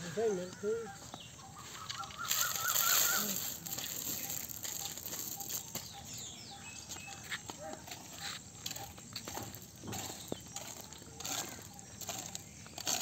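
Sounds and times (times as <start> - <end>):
birds trilling and chirping: 0.0 - 13.0.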